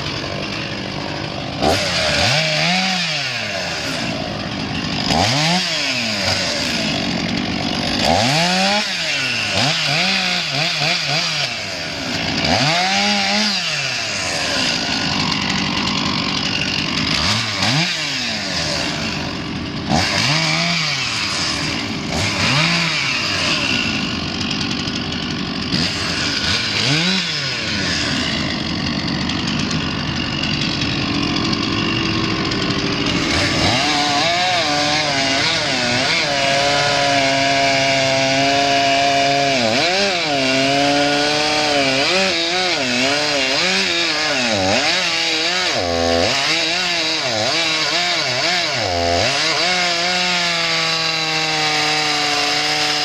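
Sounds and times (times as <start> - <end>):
chainsaw cutting tree trunk: 0.0 - 53.0.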